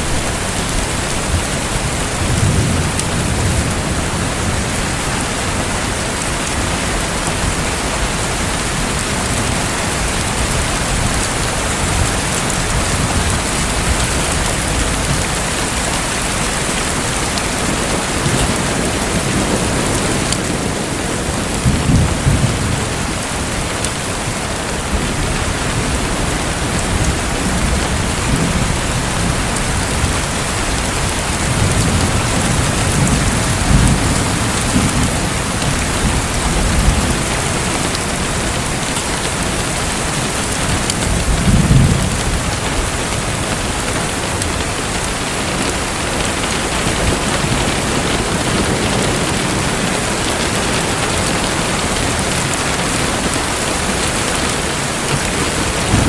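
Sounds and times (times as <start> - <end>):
heavy rain: 0.0 - 56.0
thunder rolling: 8.2 - 56.0.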